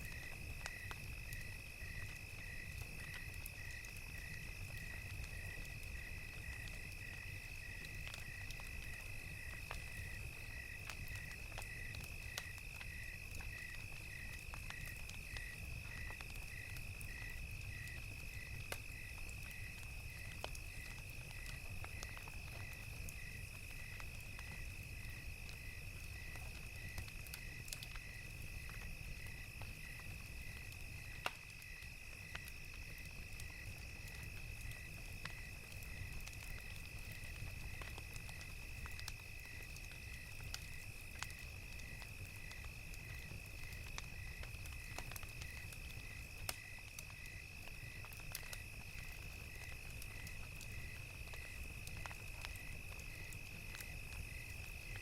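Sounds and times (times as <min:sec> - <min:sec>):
crickets chirping: 0:00.0 - 0:55.0
wood fire crackling: 0:00.0 - 0:55.0.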